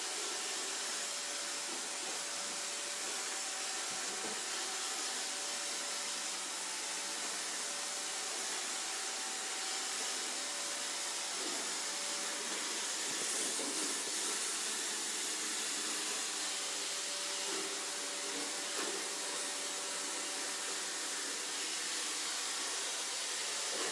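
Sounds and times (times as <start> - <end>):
robot vacuum whirring: 0.4 - 23.9.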